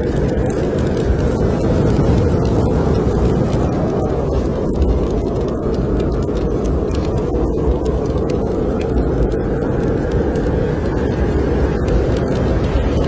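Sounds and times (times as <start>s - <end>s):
wind blowing: 0.0s - 13.0s
wood fire crackling: 0.0s - 13.0s.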